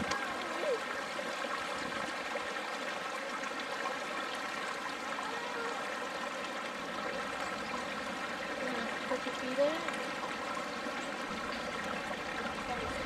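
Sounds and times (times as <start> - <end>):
mountain stream flowing: 0.0 - 13.0.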